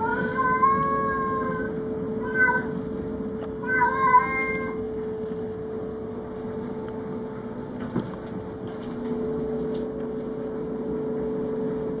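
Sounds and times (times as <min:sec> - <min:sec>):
steady humming tone: 0:00.0 - 0:12.0.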